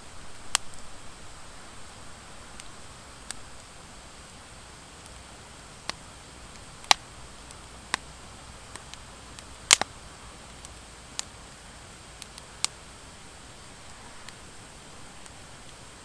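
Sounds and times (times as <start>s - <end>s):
soft steady hiss: 0.0s - 16.0s
wood fire crackling: 0.0s - 16.0s
fire popping: 0.2s - 16.0s.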